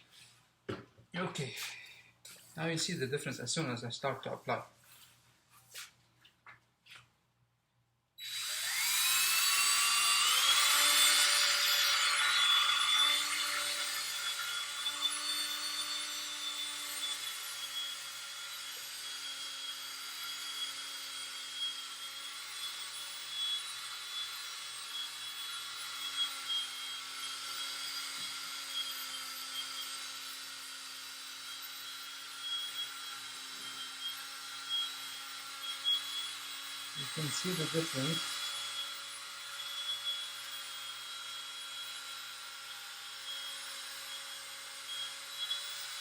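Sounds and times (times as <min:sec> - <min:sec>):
power drill whine: 0:08.2 - 0:46.0.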